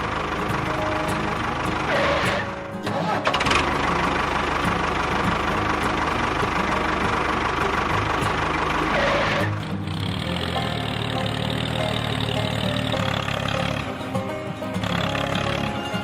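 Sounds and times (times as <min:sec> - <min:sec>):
engine chugging: 0:00.0 - 0:16.0.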